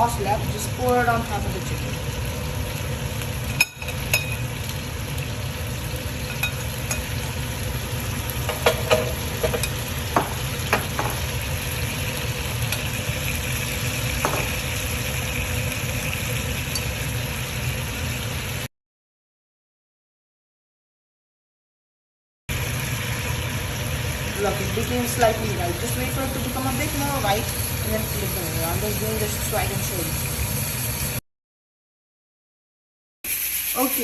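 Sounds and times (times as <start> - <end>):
chicken sizzling in a frying pan: 0.0 - 18.7, 22.5 - 31.2, 33.3 - 34.0.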